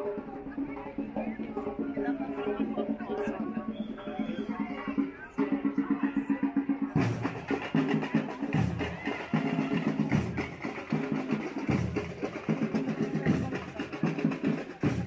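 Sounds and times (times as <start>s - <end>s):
samba drums: 0.0s - 15.0s.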